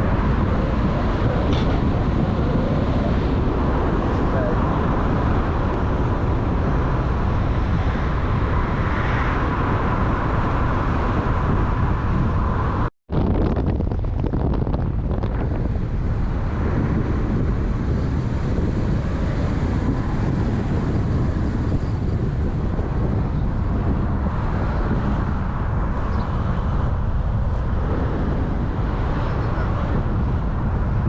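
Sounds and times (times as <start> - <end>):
vehicle rumble: 0.0 - 31.0
wind buffeting microphone: 0.0 - 31.0.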